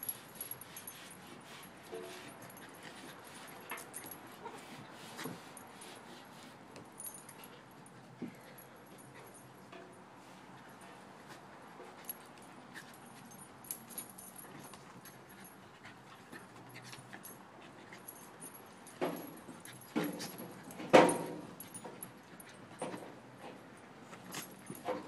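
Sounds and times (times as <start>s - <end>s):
dogs play-wrestling: 0.0s - 25.0s.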